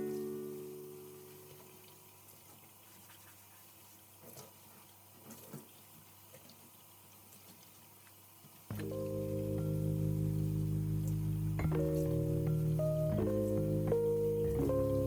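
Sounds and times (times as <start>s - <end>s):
faint water at a sink: 0.0s - 15.0s.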